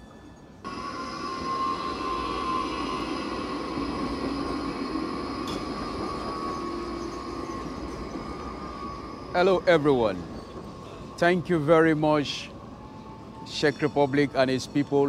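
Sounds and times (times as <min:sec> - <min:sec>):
tram high whine: 0:00.0 - 0:15.0
tram rolling noise: 0:00.0 - 0:15.0.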